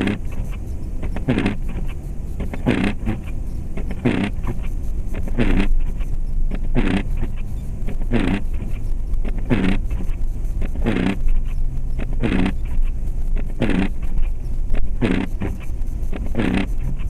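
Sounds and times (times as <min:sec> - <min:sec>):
engine and tyre drone: 0:00.0 - 0:17.0
windshield wipers swishing: 0:00.0 - 0:17.0.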